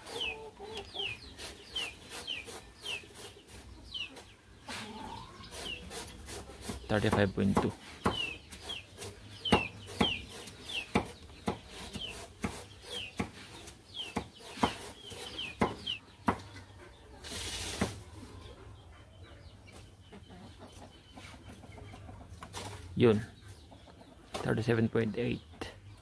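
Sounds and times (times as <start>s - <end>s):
chickens calling: 0.0s - 26.0s.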